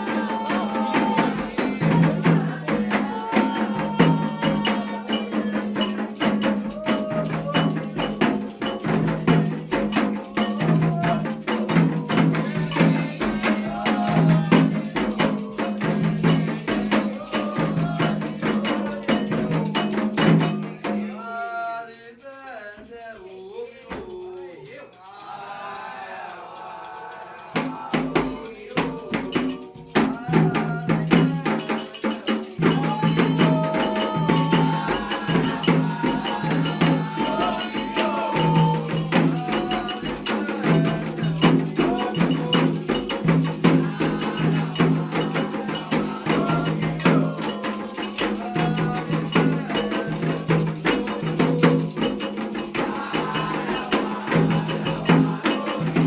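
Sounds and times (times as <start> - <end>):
metal bell: 0.0 - 21.1, 27.6 - 56.0
hand drums beating: 0.0 - 21.7, 25.1 - 56.0
voices singing: 0.0 - 56.0.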